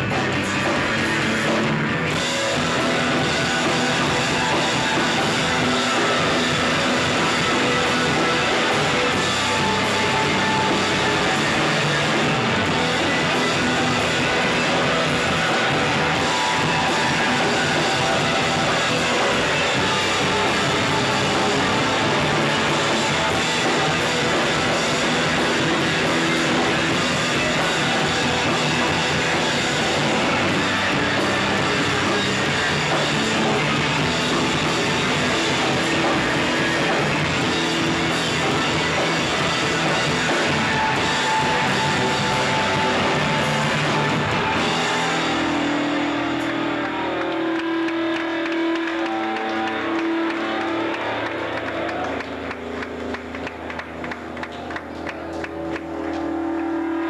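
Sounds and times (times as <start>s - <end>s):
rock band with distorted guitars: 0.0s - 57.0s.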